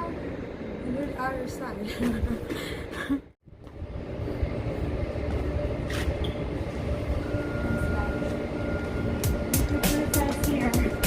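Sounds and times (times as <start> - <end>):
thin steady whine: 0.0 - 11.0.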